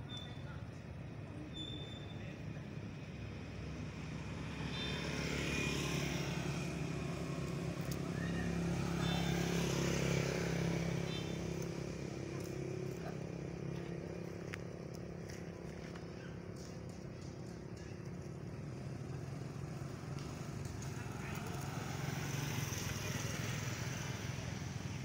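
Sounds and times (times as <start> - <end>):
vehicle passing by: 2.3 - 25.0.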